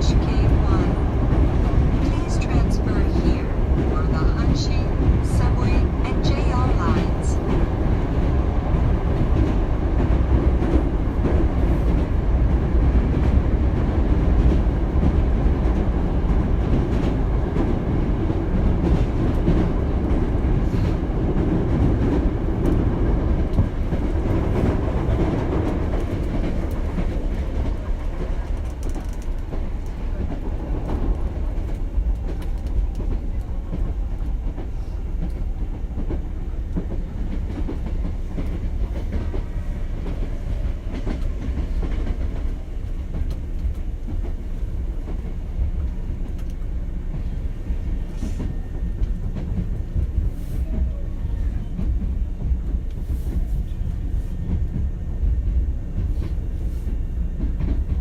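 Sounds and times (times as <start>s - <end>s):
clickety-clack of rail joints: 0.0s - 58.0s
train wheels rumbling on rail: 0.0s - 58.0s.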